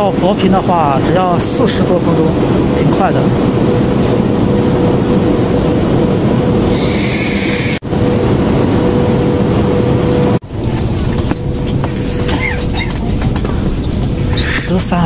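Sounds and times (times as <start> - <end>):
constant low hum: 0.0 - 15.0
high-speed train noise: 0.0 - 15.0.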